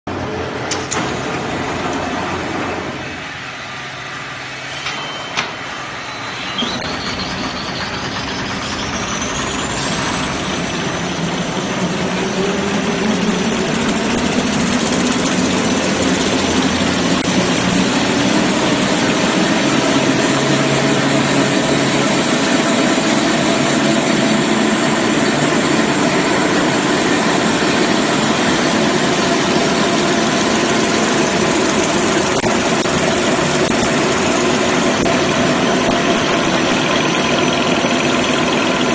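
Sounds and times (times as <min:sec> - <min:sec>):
machine running with high whine: 0:00.1 - 0:38.9.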